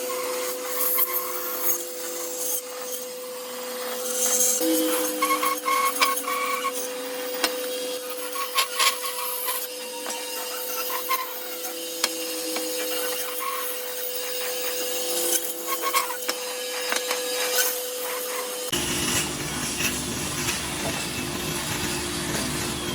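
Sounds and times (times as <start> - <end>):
band saw cutting wood: 0.0 - 22.9.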